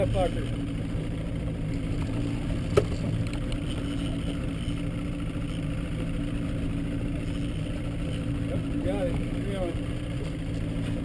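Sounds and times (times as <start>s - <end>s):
outboard motor humming: 0.0s - 11.0s.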